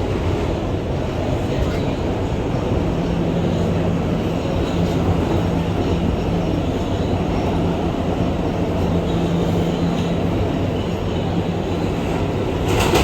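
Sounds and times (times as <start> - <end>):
rumble of train wheels on rail: 0.0 - 13.0.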